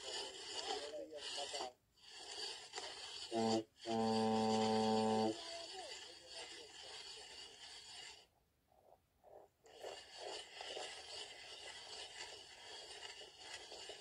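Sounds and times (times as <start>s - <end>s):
ice auger scraping and grinding: 0.0s - 8.3s, 9.3s - 14.0s.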